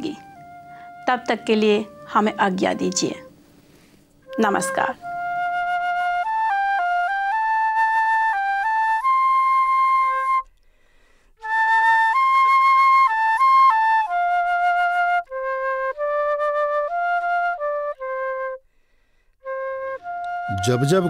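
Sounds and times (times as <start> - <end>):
solo flute melody: 0.0 - 3.4, 4.2 - 10.8, 11.4 - 18.7, 19.4 - 21.0.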